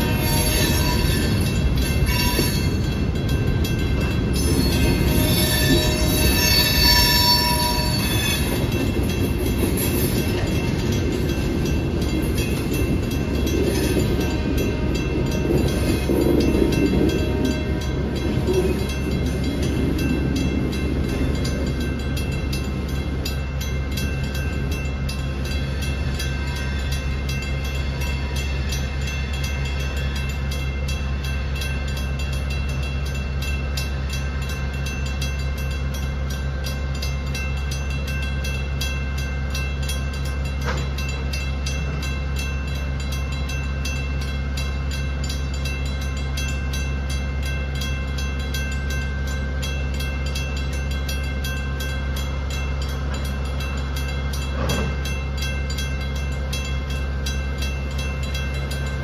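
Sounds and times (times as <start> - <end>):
crossing bell ringing: 0.0 - 59.0
diesel locomotive rumble: 0.0 - 59.0.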